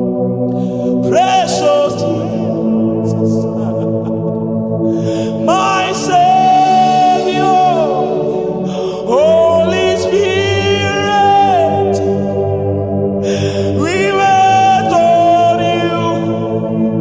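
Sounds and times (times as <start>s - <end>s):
person singing gospel: 0.0s - 17.0s
sustained keyboard chords: 0.0s - 17.0s.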